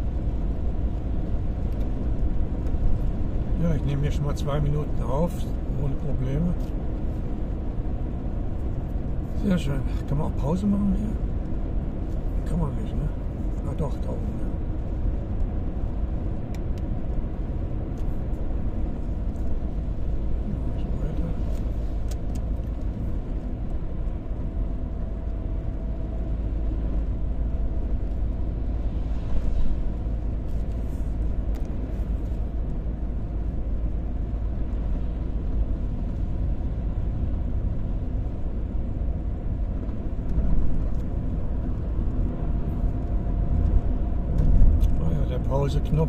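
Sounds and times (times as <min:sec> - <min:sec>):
engine and tyre rumble on wet road: 0:00.0 - 0:46.0.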